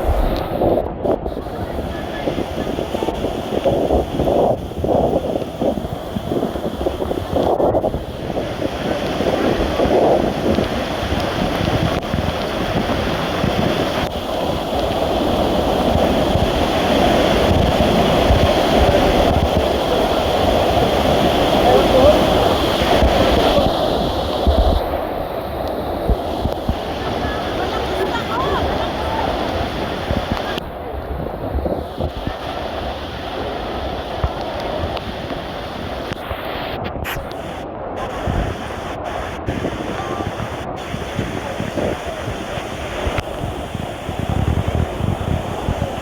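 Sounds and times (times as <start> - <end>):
rushing water: 0.0 - 46.0
wind blowing across microphone: 0.0 - 46.0.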